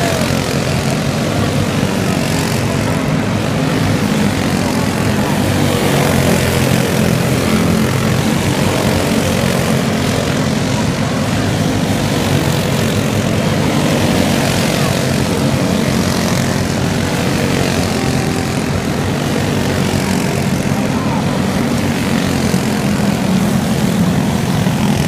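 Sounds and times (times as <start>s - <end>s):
go-kart engines droning: 0.0s - 25.0s.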